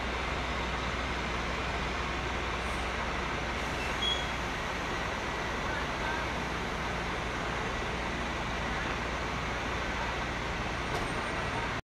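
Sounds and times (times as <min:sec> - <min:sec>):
diesel engine rumbling: 0:00.0 - 0:11.8.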